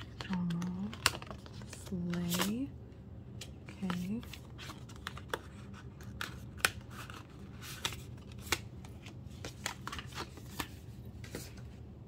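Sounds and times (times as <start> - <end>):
packaging clicks and rustles: 0.0 - 2.7, 3.7 - 11.7
low steady hum: 0.0 - 12.0.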